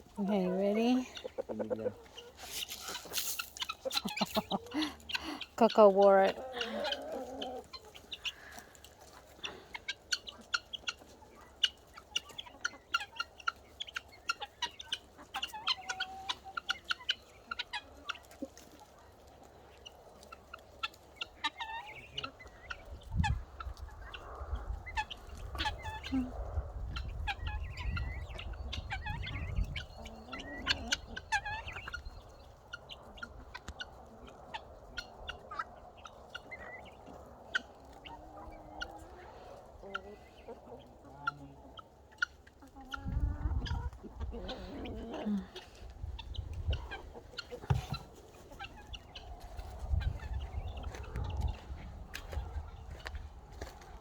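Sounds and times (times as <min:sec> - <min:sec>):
chickens clucking and chirping: 0:00.0 - 0:54.0.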